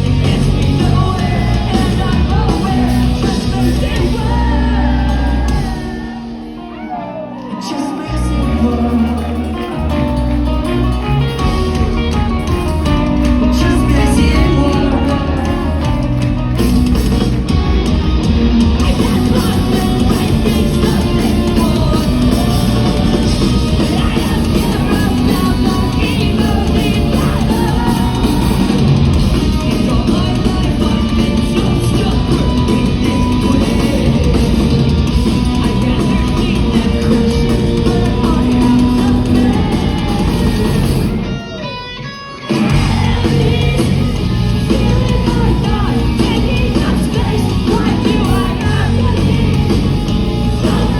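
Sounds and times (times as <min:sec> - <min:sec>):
person singing: 0:00.0 - 0:17.6, 0:18.8 - 0:50.9
distorted guitars: 0:00.0 - 0:50.9
drums: 0:00.0 - 0:50.9
live rock band playing: 0:00.0 - 0:50.9.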